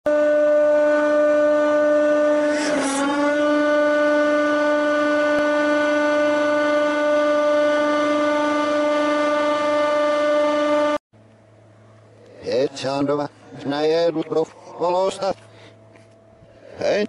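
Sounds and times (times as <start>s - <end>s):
hydraulic pump whine: 0.1s - 17.0s.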